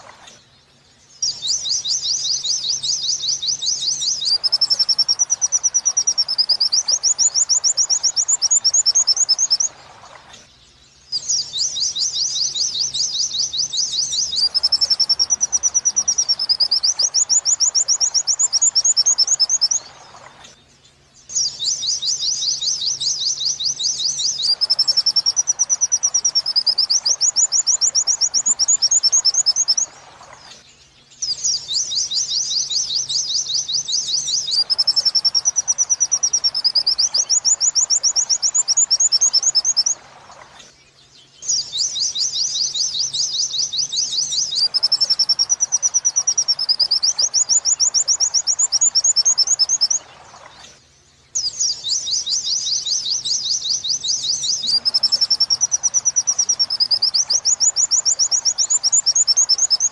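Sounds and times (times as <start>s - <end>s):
bird song with trills and whistles: 0.0s - 59.9s.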